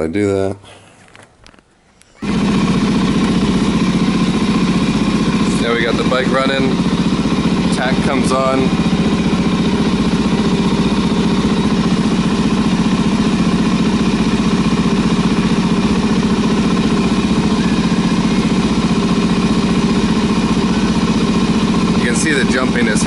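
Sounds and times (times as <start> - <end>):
motorcycle engine idling: 2.2 - 23.0.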